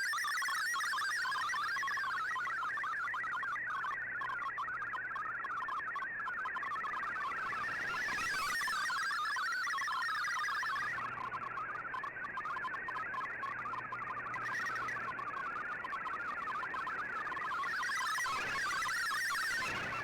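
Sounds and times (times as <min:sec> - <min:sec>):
warbling digital data tones: 0:00.0 - 0:20.0.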